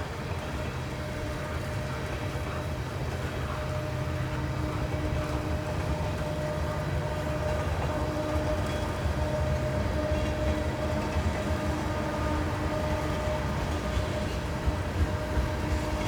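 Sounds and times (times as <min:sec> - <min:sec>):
train rumbling by: 0:00.0 - 0:16.0.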